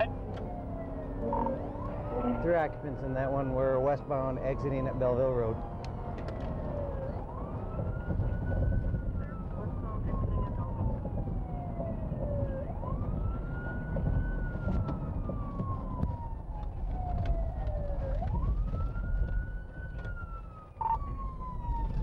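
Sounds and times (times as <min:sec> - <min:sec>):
car engine rumble: 0:00.0 - 0:22.0
police siren wailing: 0:00.0 - 0:22.0
road noise: 0:00.0 - 0:22.0.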